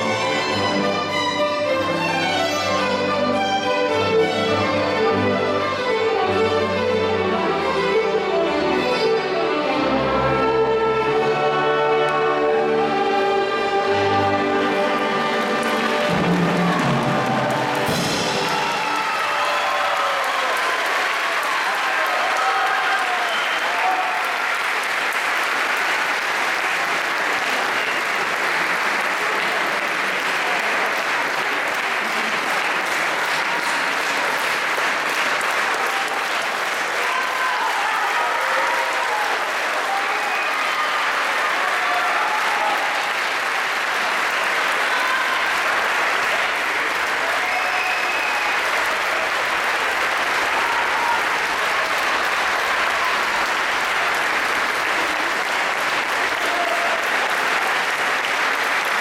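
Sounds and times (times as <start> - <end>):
audience applauding: 11.5 - 59.0.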